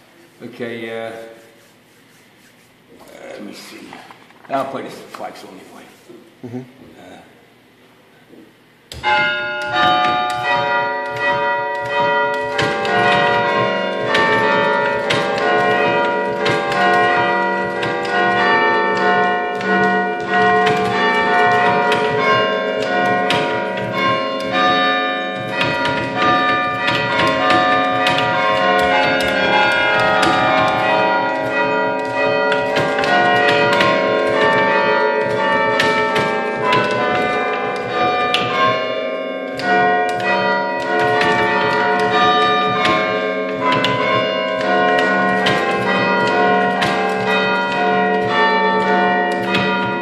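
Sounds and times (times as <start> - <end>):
church bells playing a tune: 8.9 - 50.0.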